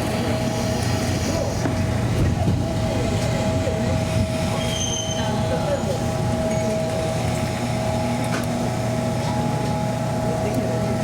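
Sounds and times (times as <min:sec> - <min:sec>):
electric train hum and whine: 0:00.0 - 0:11.0.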